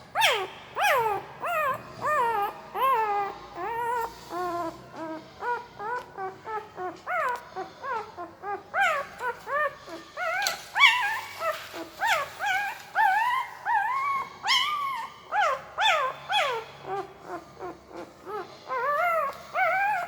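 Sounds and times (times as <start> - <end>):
puppy whimpering and squeaking: 0.0 - 20.0.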